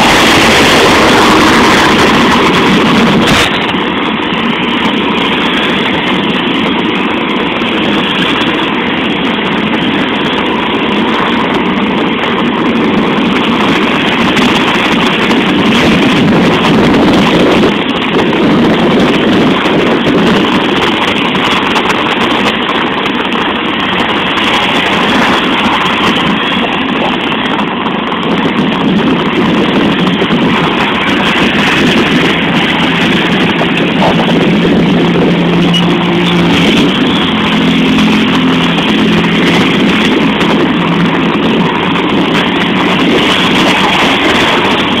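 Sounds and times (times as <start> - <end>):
rain and wind rushing: 0.0 - 45.0
vehicle engine hum: 0.0 - 45.0.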